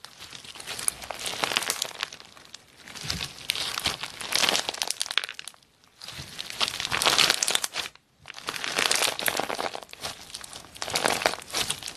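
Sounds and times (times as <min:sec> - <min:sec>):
slime crackling and popping: 0:00.0 - 0:11.9.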